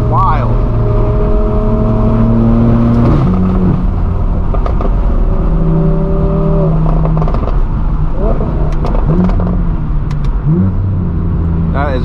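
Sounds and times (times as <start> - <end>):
loud car engine with gear shift: 0.0 - 12.0.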